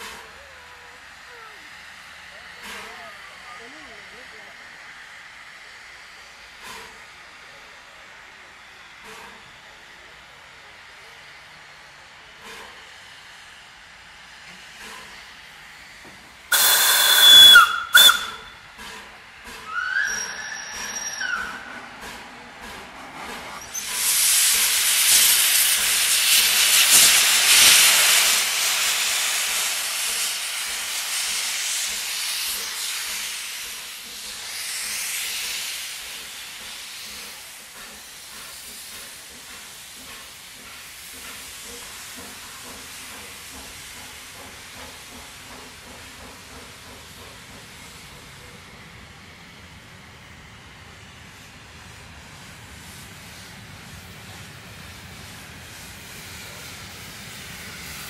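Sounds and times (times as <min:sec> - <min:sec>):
steam hissing from locomotive: 0:00.0 - 0:58.0
steam train running: 0:00.0 - 0:58.0.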